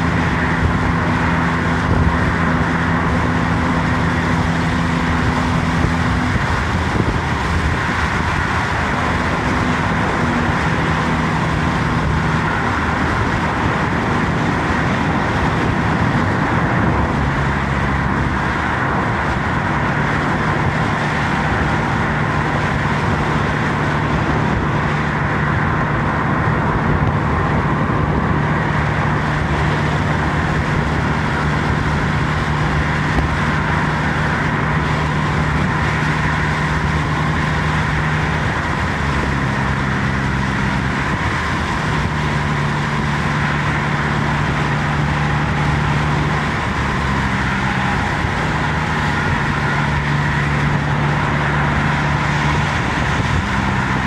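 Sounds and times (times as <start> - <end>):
low engine hum: 0.0 - 54.0.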